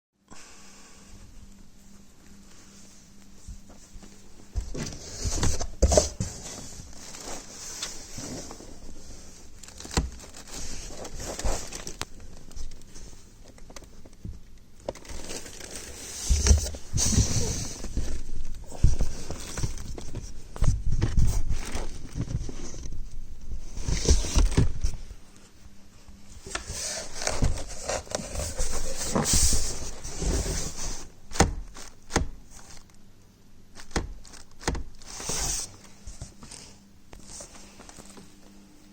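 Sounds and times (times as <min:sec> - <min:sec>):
handling scrapes and rustles: 0:02.3 - 0:13.5, 0:14.9 - 0:32.9, 0:34.2 - 0:38.6.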